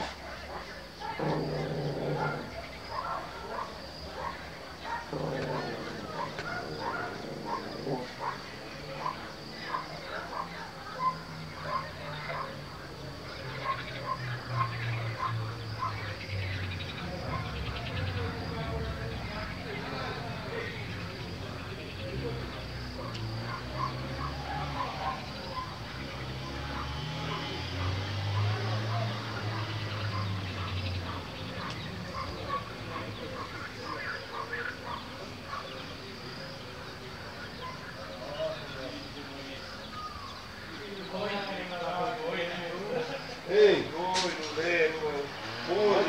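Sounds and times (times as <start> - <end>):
faint outdoor hiss: 0.0 - 46.0.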